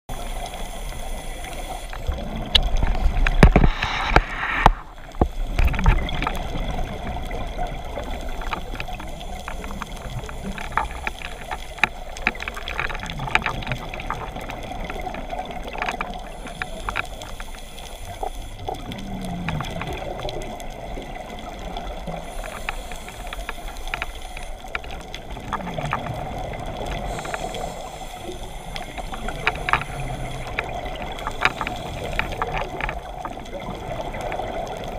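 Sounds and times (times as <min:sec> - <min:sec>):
small crackling clicks: 0:00.1 - 0:34.9
steady underwater hiss: 0:00.1 - 0:34.9.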